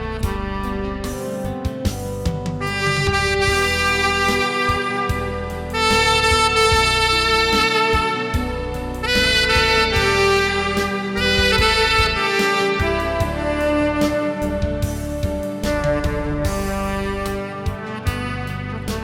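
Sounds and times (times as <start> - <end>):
recorded accompaniment with bass: 0.0 - 19.0
tenor saxophone melody: 0.0 - 19.0.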